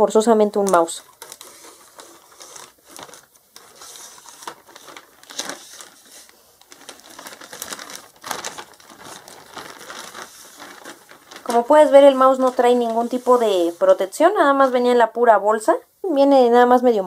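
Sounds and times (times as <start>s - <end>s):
plastic bag crinkling: 0.1s - 15.0s.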